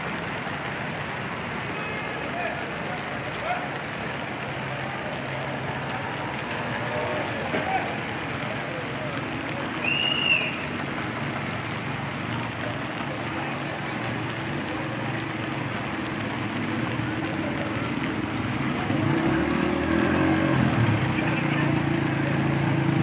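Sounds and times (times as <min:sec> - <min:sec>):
street noise: 0:00.0 - 0:23.0
vehicle engine: 0:03.7 - 0:23.0.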